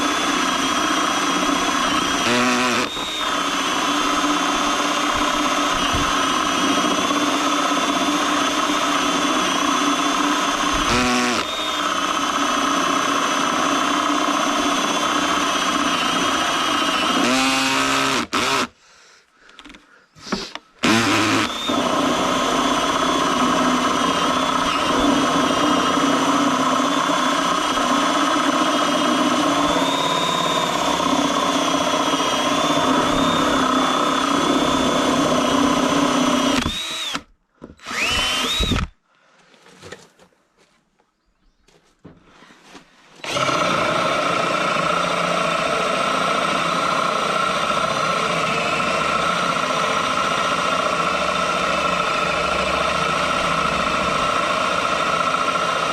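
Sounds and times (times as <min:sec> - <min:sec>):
electric power tool motor running: 0:00.0 - 0:18.7, 0:20.8 - 0:38.9, 0:43.2 - 0:55.9.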